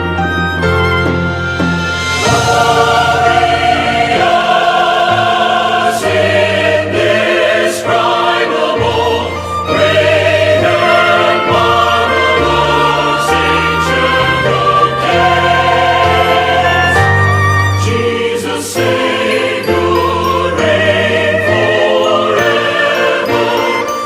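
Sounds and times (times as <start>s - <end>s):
orchestral accompaniment: 0.0s - 24.0s
choir singing held chords: 2.0s - 24.0s.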